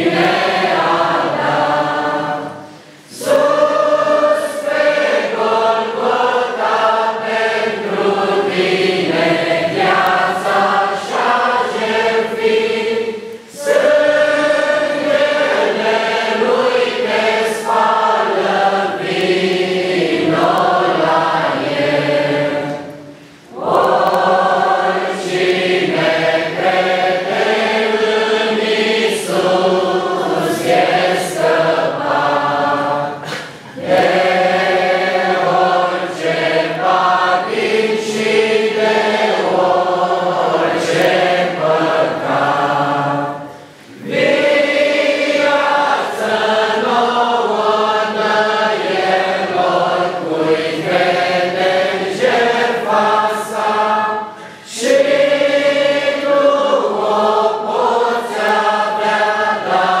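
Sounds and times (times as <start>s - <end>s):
congregation singing a hymn: 0.0s - 60.0s.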